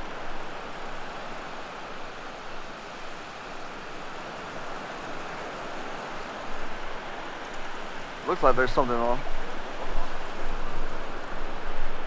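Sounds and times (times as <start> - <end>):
small waves washing onto beach: 0.0 - 12.0.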